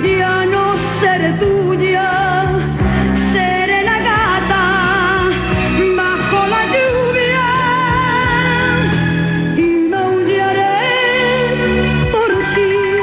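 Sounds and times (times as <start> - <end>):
woman singing ballad: 0.0 - 13.0.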